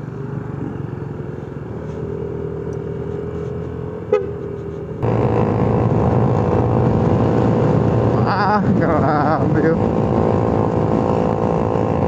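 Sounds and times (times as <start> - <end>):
motorcycle riding engine noise: 0.0 - 12.0
motorcycles passing: 0.0 - 12.0.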